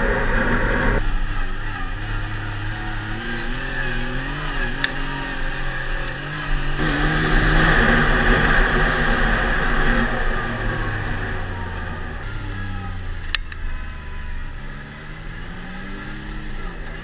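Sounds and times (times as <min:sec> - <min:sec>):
engine pulling under load: 0:00.0 - 0:17.0.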